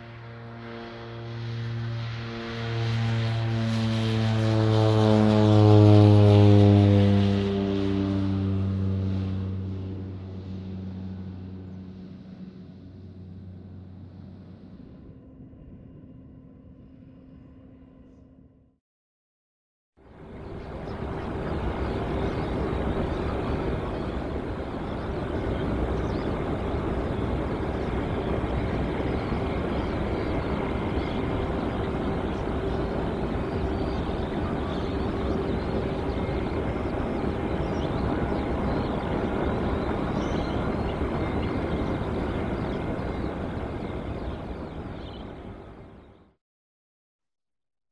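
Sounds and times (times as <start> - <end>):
aircraft engine running: 0.0 - 18.8, 20.0 - 46.4.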